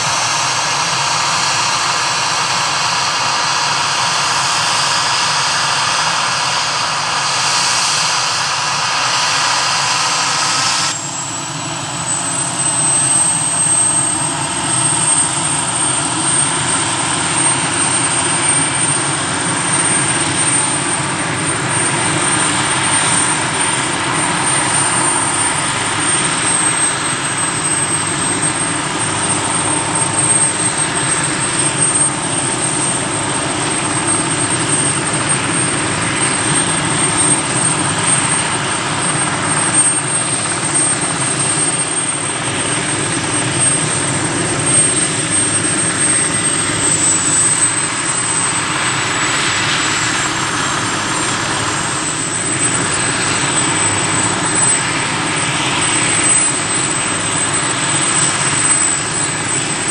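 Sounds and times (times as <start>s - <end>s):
helicopter rotor rushing: 0.0s - 59.9s
helicopter turbine whine: 0.0s - 59.9s
high whistle: 0.0s - 59.9s.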